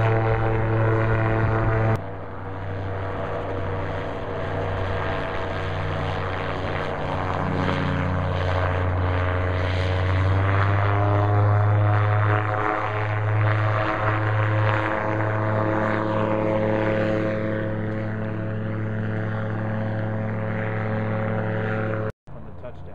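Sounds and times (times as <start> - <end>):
gyrocopter engine and propeller: 0.0 - 22.9.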